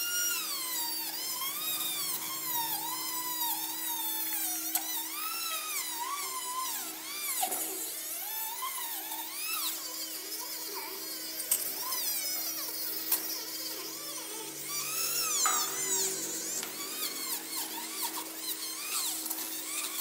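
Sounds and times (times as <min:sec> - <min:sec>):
rotary tool whining on metal: 0:00.0 - 0:20.0.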